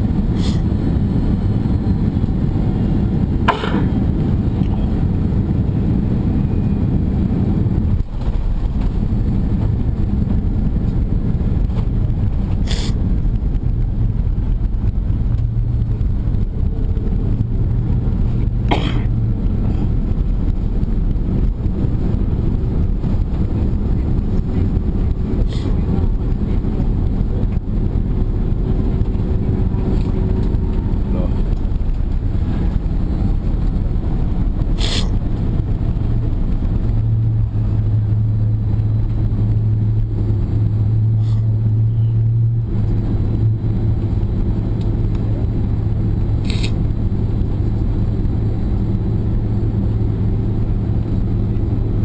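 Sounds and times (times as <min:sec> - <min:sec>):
jet engines rumbling in cabin: 0:00.0 - 0:52.0.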